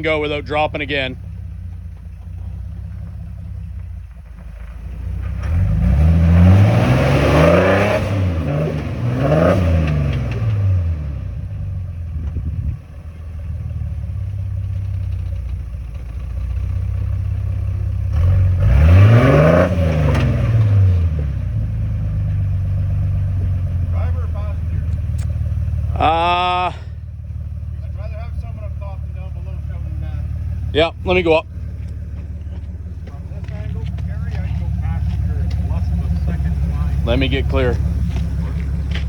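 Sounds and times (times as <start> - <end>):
engine idling and revving: 0.0 - 39.0.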